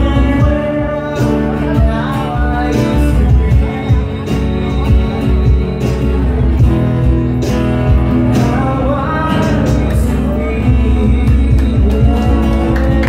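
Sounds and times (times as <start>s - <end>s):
man singing: 0.0s - 13.0s
percussion beat: 0.0s - 13.0s
strummed acoustic guitars: 0.0s - 13.0s.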